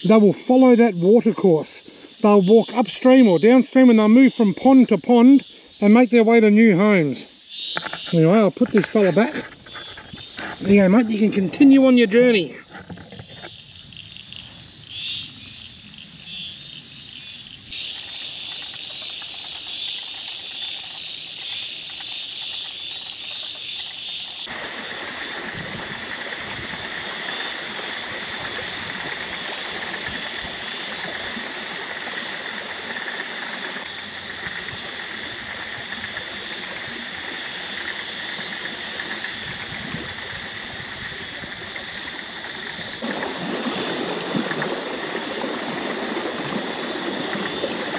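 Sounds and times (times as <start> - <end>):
trickling water: 0.0 - 14.5, 17.7 - 47.9
frogs calling: 0.0 - 47.9.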